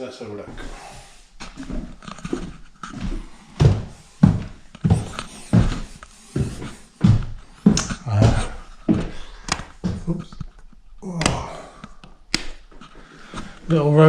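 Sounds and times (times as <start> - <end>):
footsteps walking: 0.2 - 14.0
faint knocks and rustles: 0.4 - 14.0.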